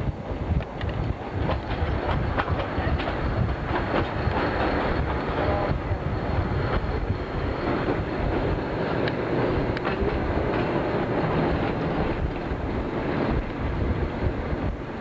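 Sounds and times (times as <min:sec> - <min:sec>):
train carriages rumbling: 0:00.0 - 0:15.0
wheels clicking over rail joints: 0:00.4 - 0:13.9.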